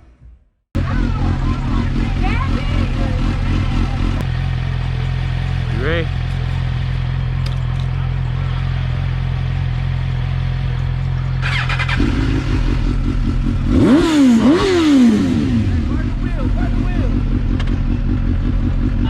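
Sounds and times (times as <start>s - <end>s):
motorcycle engine idling and revving: 0.8s - 19.0s.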